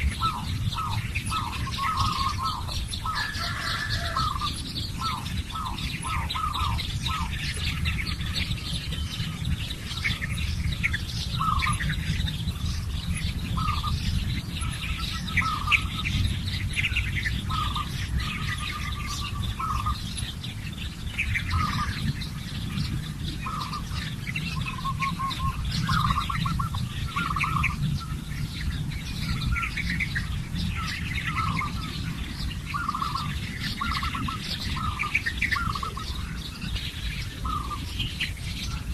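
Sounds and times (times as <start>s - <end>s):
birds chirping: 0.0s - 38.9s
steady low rumble: 0.0s - 38.9s.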